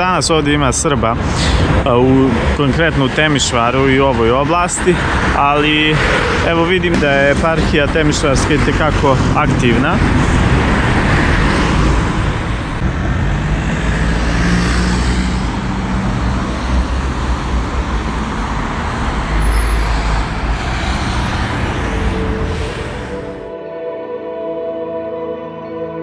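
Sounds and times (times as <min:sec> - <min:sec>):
cars driving past: 0:00.0 - 0:23.6.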